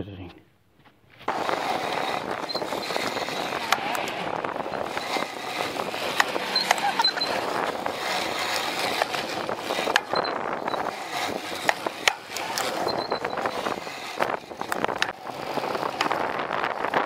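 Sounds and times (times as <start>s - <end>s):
bike tyre rolling on concrete: 0.8s - 17.0s
bike clicks and rattles: 1.2s - 17.0s.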